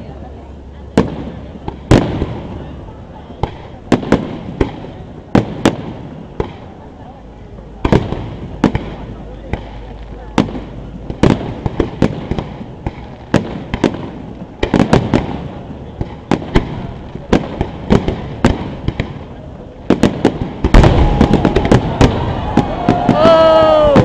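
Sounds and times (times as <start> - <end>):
continuous rumble: 0.0 - 24.0.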